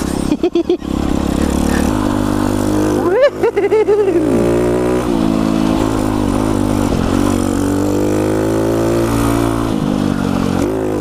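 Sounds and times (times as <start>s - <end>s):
pit bike engine running: 0.0s - 11.0s.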